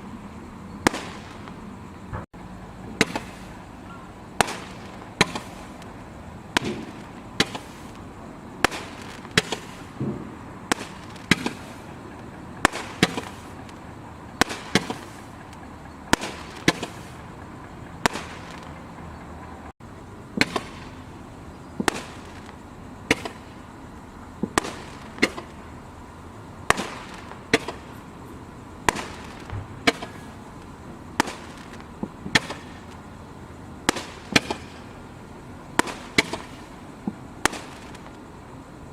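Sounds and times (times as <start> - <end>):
firework bangs with echo: 0.7 - 2.3, 2.9 - 19.2, 20.3 - 23.6, 24.4 - 25.7, 26.6 - 28.2, 28.8 - 33.0, 33.8 - 35.0, 35.7 - 38.3.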